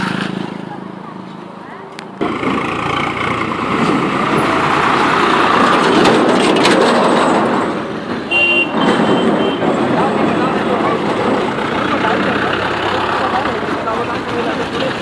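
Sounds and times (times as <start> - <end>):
truck passing: 0.0 - 15.0.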